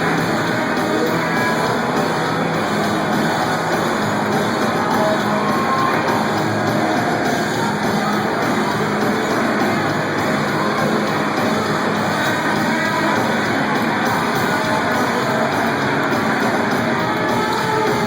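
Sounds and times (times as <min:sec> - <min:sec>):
rock band with electric guitar: 0:00.0 - 0:18.0.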